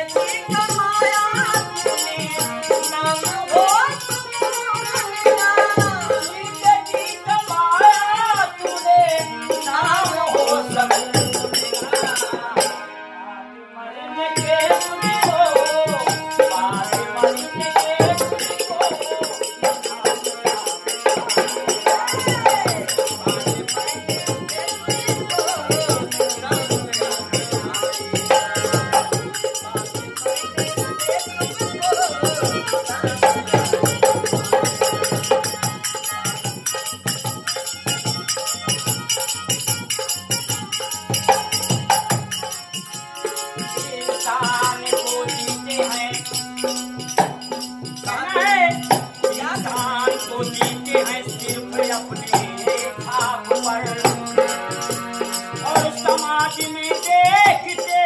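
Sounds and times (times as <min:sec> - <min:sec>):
hand drum rhythm: 0:00.0 - 0:12.6, 0:14.4 - 0:58.0
man singing: 0:00.0 - 0:36.9, 0:43.2 - 0:58.0
harmonium chords: 0:00.0 - 0:58.0.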